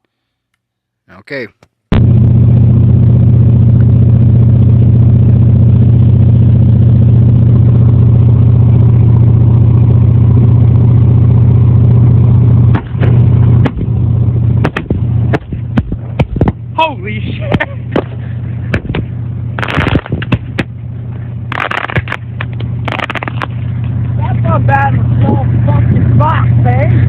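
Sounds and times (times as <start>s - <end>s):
choppy hitting bass: 1.9s - 27.0s
subwoofer deep bass tone: 1.9s - 27.0s.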